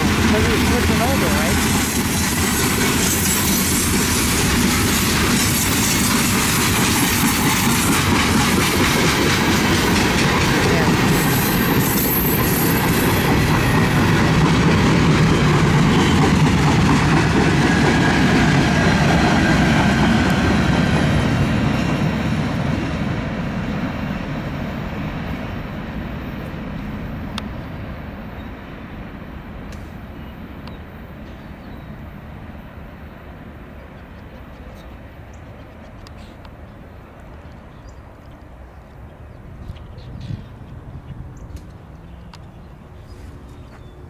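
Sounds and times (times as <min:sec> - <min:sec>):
freight train rumbling on rails: 0:00.0 - 0:44.0.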